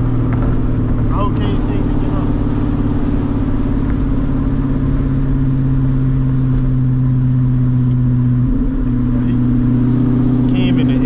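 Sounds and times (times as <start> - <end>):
car exhaust drone: 0.0 - 11.0.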